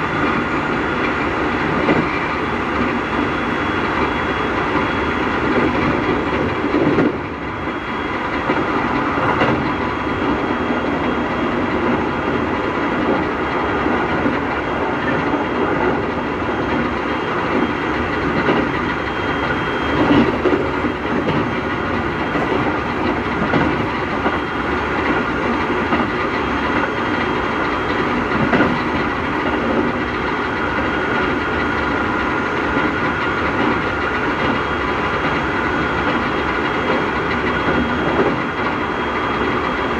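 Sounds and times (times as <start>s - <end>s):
traction motor whine: 0.0s - 39.9s
train rolling noise: 0.0s - 39.9s.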